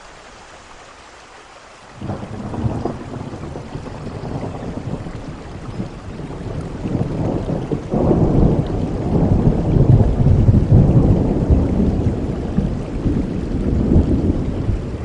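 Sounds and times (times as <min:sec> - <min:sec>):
heavy rain: 0:00.0 - 0:15.0
rolling thunder rumble: 0:02.0 - 0:15.0.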